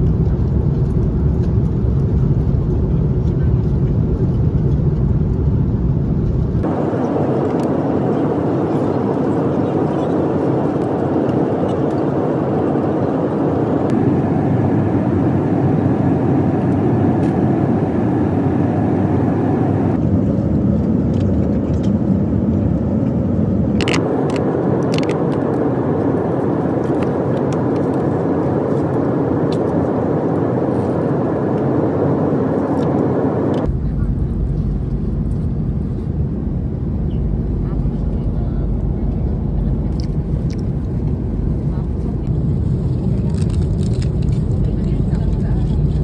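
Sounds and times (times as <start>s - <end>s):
vehicle running noise: 0.0s - 46.0s.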